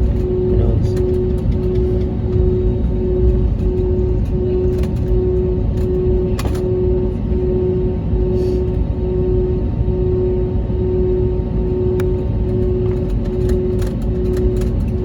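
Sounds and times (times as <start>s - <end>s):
aircraft cabin rumble: 0.0s - 15.0s
held hum: 0.0s - 15.0s.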